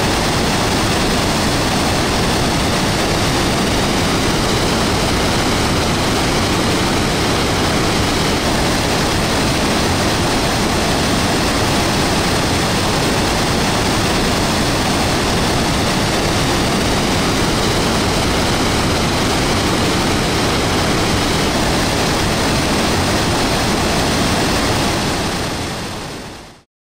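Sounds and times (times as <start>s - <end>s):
waterfall rushing: 0.0s - 26.6s.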